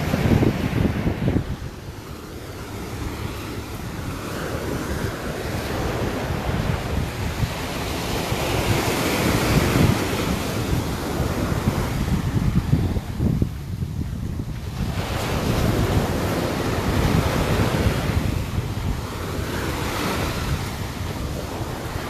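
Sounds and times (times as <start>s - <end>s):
sea waves breaking on beach: 0.0s - 22.0s
wind buffeting microphone: 0.0s - 22.0s.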